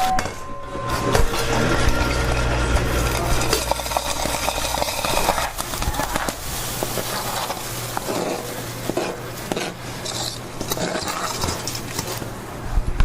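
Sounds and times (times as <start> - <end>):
dishes and utensils clinking: 0.0 - 12.2
steady low hum: 0.0 - 13.0.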